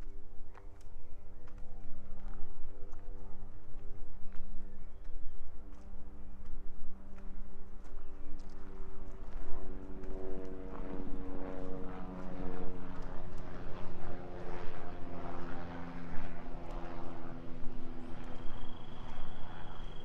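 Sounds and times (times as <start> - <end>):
engine drone: 0.0 - 20.0
footsteps on path: 0.0 - 20.0.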